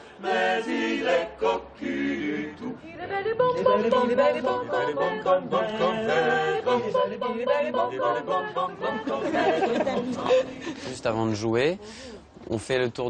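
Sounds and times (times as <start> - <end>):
people singing unaccompanied: 0.0 - 11.0.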